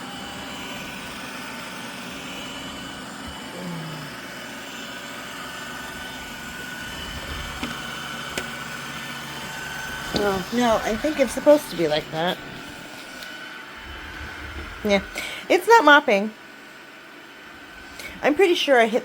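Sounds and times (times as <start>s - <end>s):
robot vacuum motor whirring: 0.0s - 16.2s.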